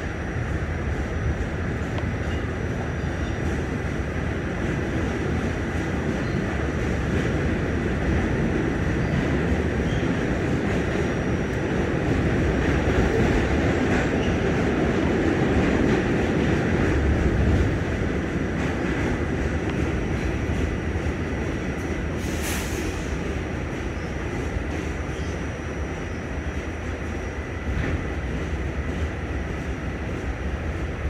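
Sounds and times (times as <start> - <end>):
subway wheels rumbling on rails: 0.0 - 31.0.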